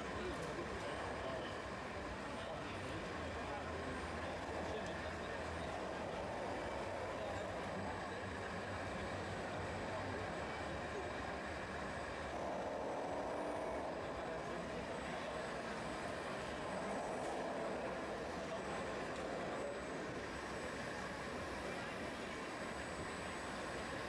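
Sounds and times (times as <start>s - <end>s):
hall background noise: 0.0s - 24.0s
toy wheel loader running: 0.0s - 24.0s.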